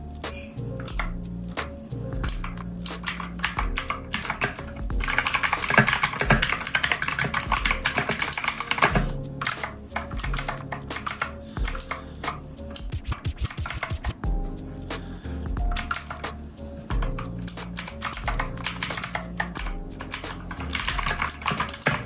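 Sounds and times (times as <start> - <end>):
background music with bass: 0.0 - 22.0
mechanical keyboard typing: 0.8 - 1.2, 2.2 - 14.2, 15.6 - 22.0.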